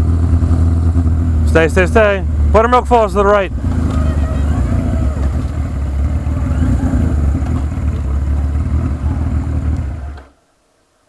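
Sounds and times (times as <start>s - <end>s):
motorcycle engine rumbling: 0.0s - 10.4s.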